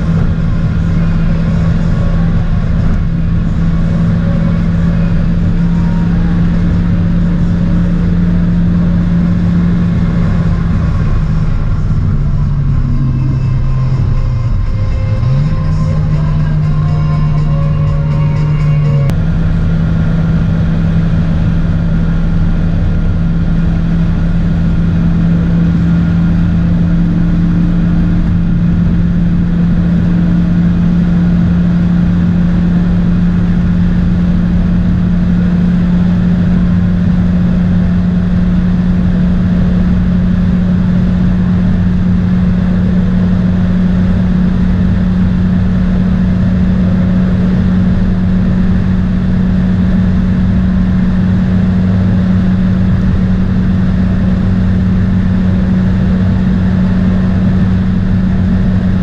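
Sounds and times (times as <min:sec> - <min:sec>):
car engine droning: 0:00.0 - 0:59.0
road and wind noise: 0:00.0 - 0:59.0.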